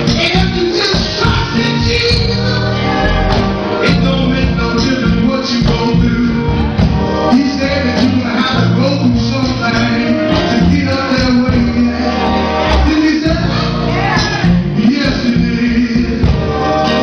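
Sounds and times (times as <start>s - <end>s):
bass line: 0.0s - 17.0s
gospel singing: 0.0s - 17.0s.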